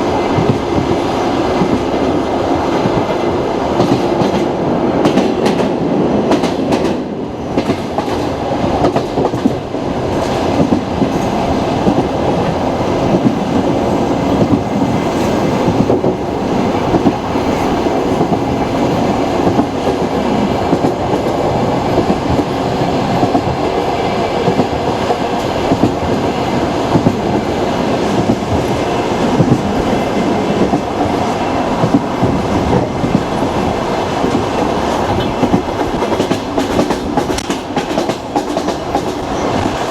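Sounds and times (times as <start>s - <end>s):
train carriage rumbling: 0.0s - 39.9s.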